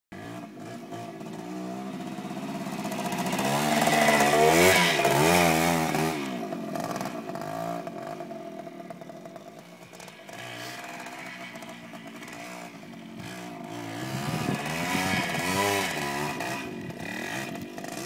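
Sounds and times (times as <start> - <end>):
dirt bike engine revving: 0.2 - 18.0.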